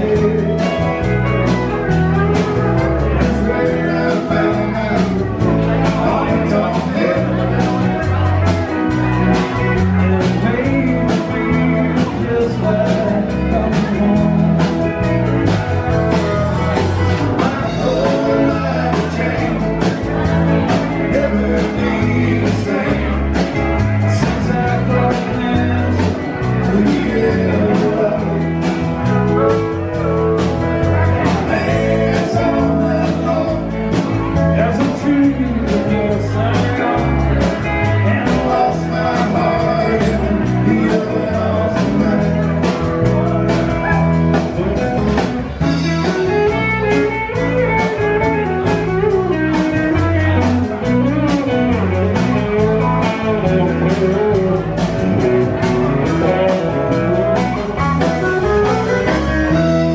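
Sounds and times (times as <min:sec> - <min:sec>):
live country band playing: 0:00.0 - 0:59.9
steady drum beat: 0:00.0 - 0:59.9.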